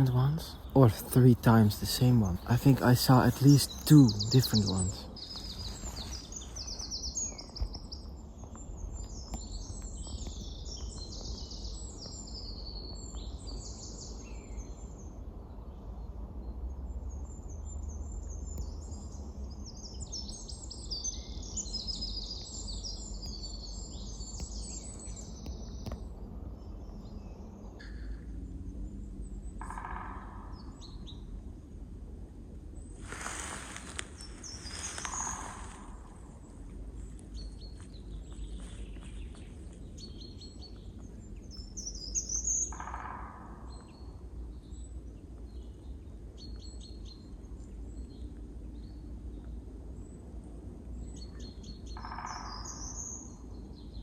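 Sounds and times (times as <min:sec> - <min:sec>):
low wind rumble: 0:00.0 - 0:54.0
songbirds twittering and trilling: 0:00.0 - 0:54.0.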